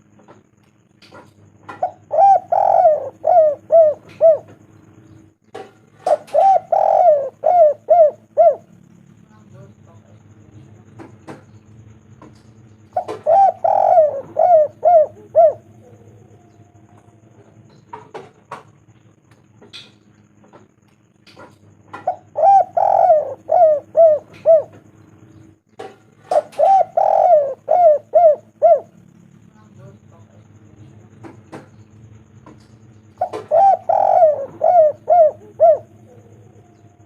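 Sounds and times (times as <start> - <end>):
dove cooing: 1.1 - 9.4, 10.4 - 37.0.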